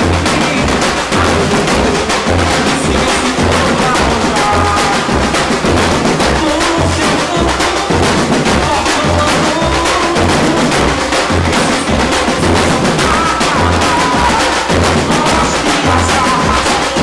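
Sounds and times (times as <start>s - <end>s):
deep bass drums: 0.0s - 17.0s
snare drums rattling: 0.0s - 17.0s.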